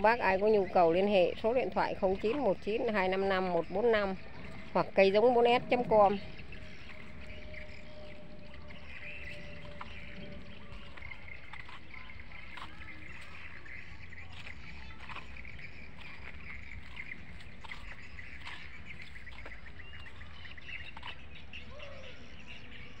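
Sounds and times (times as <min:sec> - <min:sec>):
steady low rumble: 0:00.0 - 0:21.5
small birds chirping: 0:00.0 - 0:23.0.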